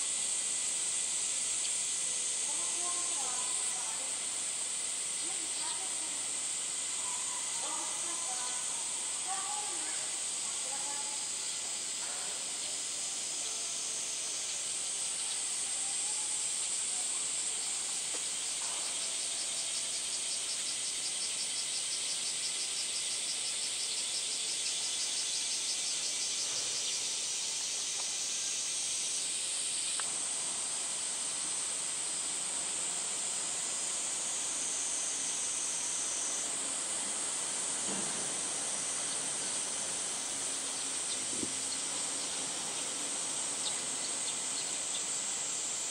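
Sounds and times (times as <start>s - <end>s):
cicadas hissing: 0.0s - 45.9s
pulsing insect trill: 0.0s - 45.9s.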